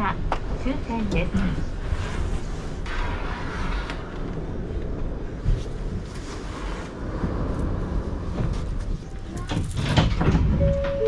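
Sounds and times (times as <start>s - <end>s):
low steady monorail rumble: 0.0s - 11.0s.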